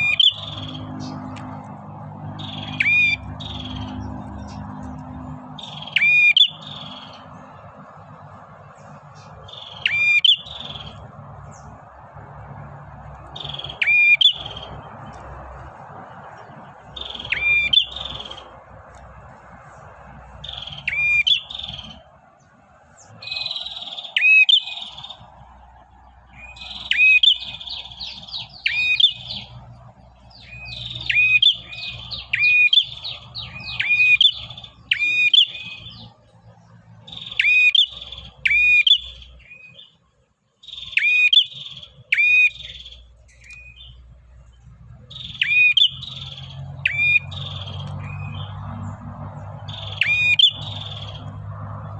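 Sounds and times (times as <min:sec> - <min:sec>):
bird chirping and trilling: 0:00.0 - 0:40.0, 0:40.6 - 0:51.9.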